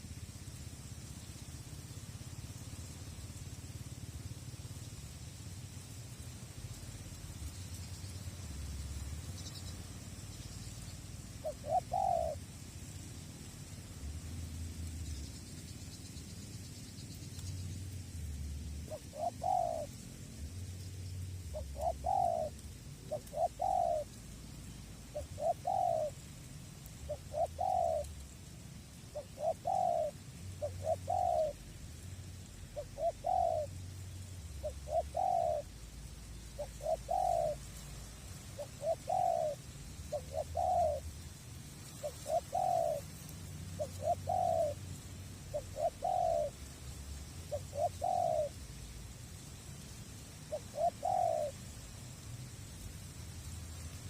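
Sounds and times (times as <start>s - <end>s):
dove cooing: 5.7s - 15.9s, 17.4s - 54.0s.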